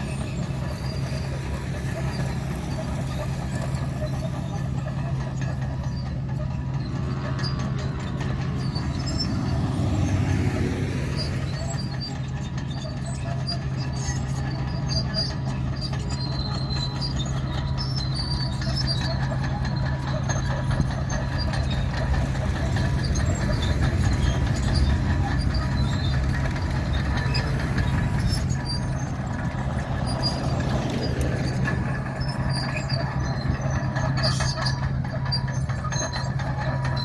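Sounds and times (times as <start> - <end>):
bulldozer diesel engine running: 0.0 - 37.0
steel tracks squealing and clanking: 0.0 - 37.0.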